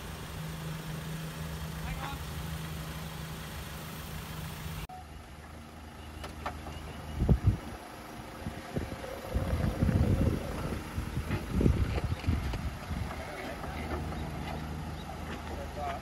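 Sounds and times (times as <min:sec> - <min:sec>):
low rumbling: 0:00.0 - 0:15.9
truck engine running slowly: 0:00.0 - 0:16.0.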